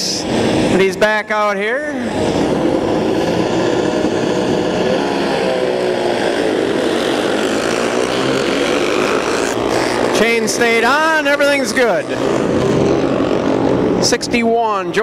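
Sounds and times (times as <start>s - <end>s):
racing motorcycles accelerating: 0.0s - 15.0s.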